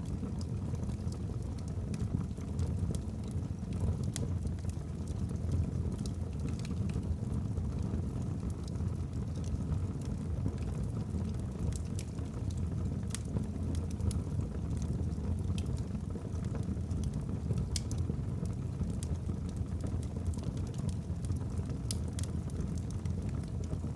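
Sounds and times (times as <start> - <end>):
fire crackling and popping: 0.0 - 23.9.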